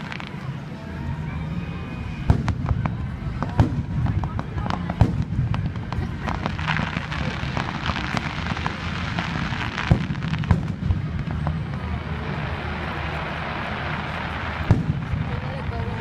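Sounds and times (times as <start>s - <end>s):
fireworks bursting: 0.0s - 0.7s, 2.1s - 16.0s.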